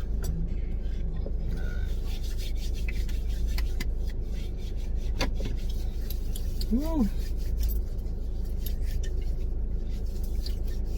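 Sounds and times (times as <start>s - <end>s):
car engine running: 0.0s - 10.9s
hands rubbing together: 1.9s - 10.9s.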